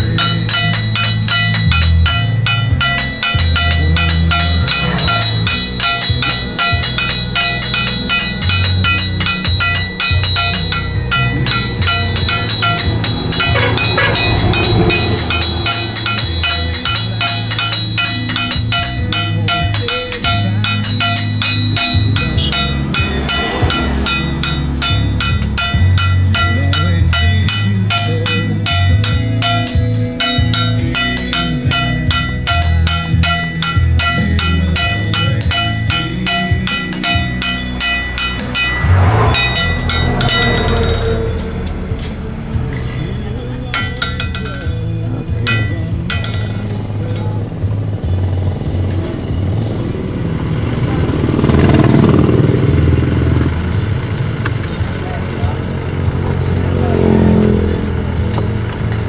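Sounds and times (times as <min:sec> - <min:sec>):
hammer ringing on steel anvil: 0:00.0 - 0:47.3.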